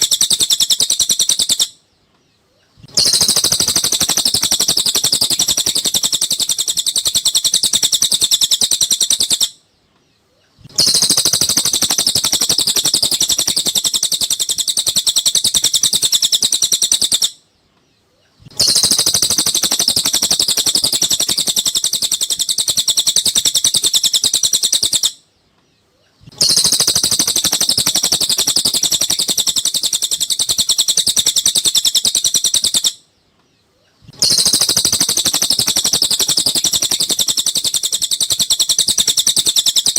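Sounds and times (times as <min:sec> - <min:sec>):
high-pitched bird chirping: 0:00.0 - 0:09.6, 0:10.3 - 0:17.4, 0:18.1 - 0:25.2, 0:26.0 - 0:33.1, 0:33.8 - 0:39.9.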